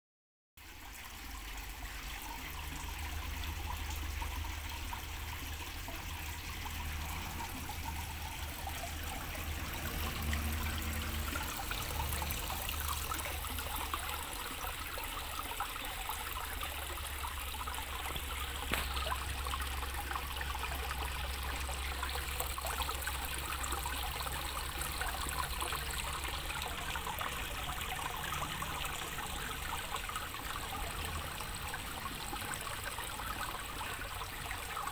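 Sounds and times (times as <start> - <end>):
water trickling into pond: 0.6 - 34.9.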